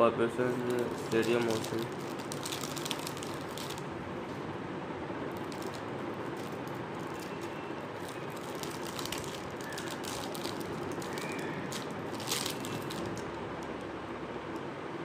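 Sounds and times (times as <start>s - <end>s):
room hiss and hum: 0.0s - 15.0s.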